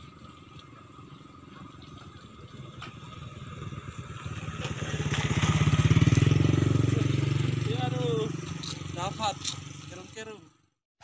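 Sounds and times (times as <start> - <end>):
small engine running: 0.1 - 10.6.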